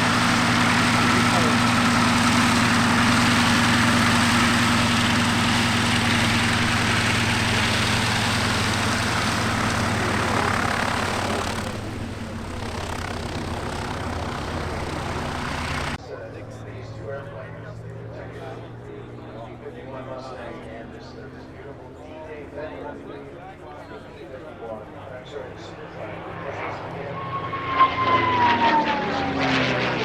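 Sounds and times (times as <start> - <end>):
propeller aircraft piston engine: 0.0 - 30.0.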